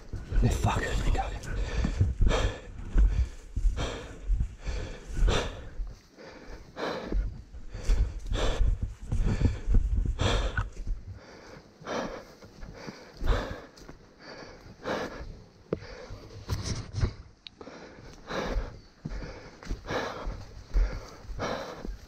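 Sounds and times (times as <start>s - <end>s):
man breathing hard: 0.0s - 22.0s.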